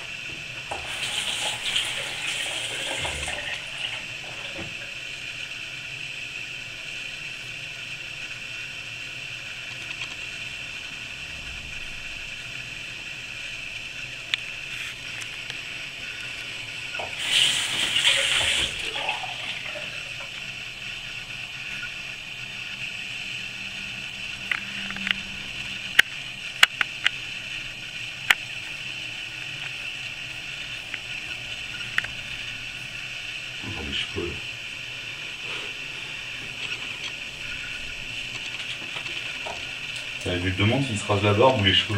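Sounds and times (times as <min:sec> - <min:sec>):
water running from tap: 0:00.0 - 0:11.2, 0:11.8 - 0:41.9
steady hiss: 0:00.0 - 0:41.9.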